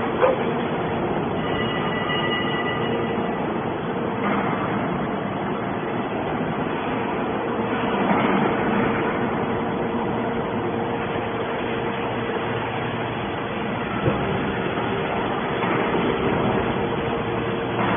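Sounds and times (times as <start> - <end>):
faint constant hum: 0.0 - 17.9.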